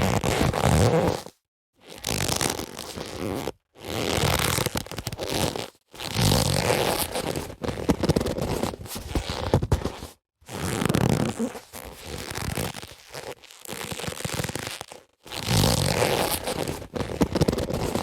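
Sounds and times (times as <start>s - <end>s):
leather gloves rubbing and creaking: 0.0s - 18.0s.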